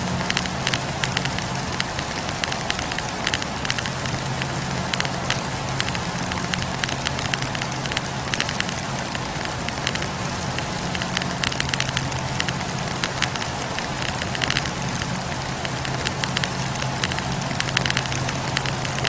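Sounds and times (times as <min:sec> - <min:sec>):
logs crackling and popping: 0:00.0 - 0:19.0
low roar of flames: 0:00.0 - 0:19.0.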